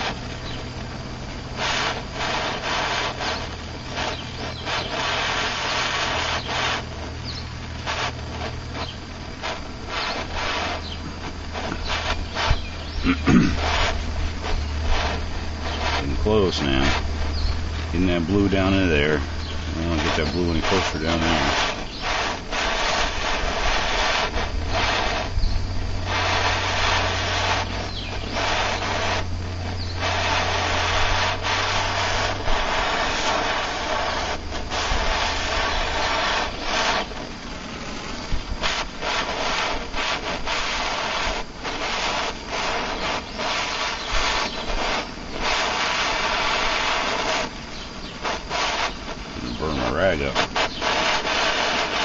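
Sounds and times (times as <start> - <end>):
gas torch flame hissing: 0.0 - 52.0.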